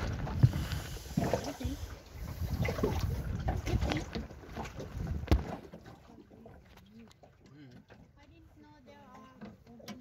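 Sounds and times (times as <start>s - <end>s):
water slapping boat hull: 0.0s - 10.0s.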